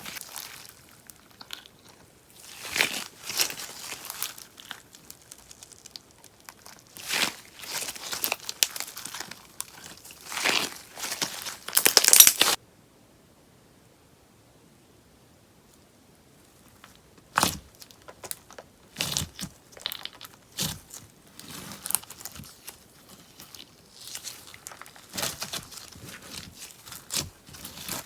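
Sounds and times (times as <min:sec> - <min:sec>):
slime crackling and popping: 0:00.0 - 0:12.6, 0:17.3 - 0:28.0.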